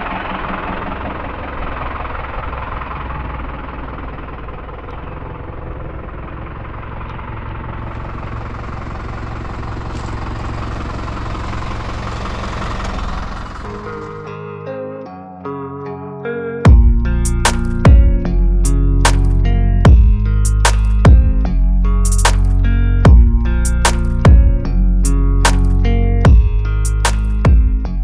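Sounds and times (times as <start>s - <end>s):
tractor diesel engine rumbling: 0.0s - 14.4s, 16.7s - 27.5s.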